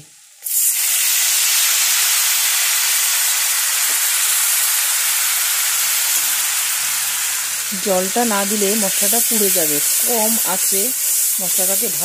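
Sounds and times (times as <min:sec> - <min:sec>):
spices and oil sizzling: 0:00.0 - 0:12.0.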